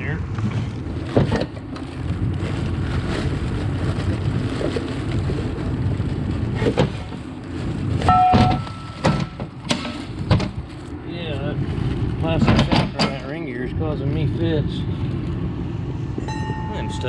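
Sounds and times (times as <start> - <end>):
low rumble of workshop: 0.0 - 17.0.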